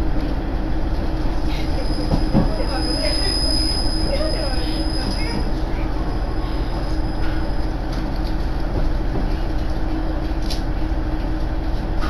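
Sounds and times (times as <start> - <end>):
diesel railcar rumble and hum: 0.0 - 12.0.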